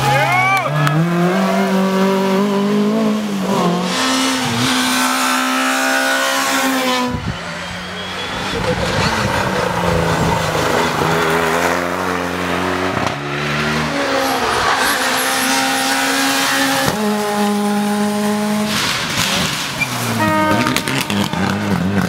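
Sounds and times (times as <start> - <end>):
rally car engines revving hard: 0.0 - 22.0.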